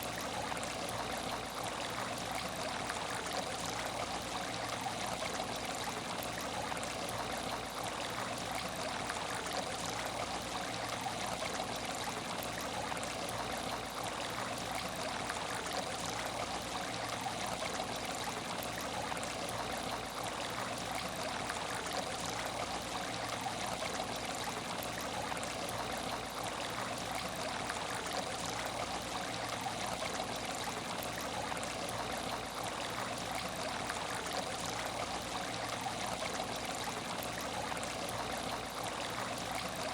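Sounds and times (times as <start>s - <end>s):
water trickling in a tank: 0.0s - 39.9s.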